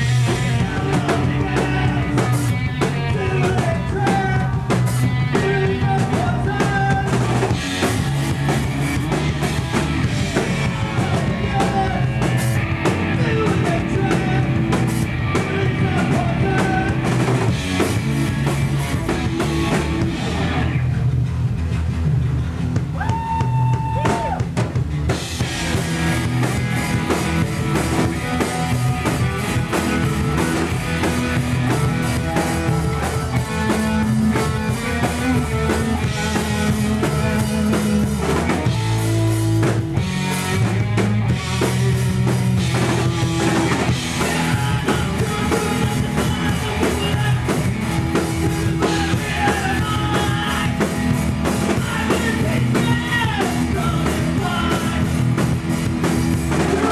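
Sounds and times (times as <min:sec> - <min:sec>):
live rock band playing: 0:00.0 - 0:56.9.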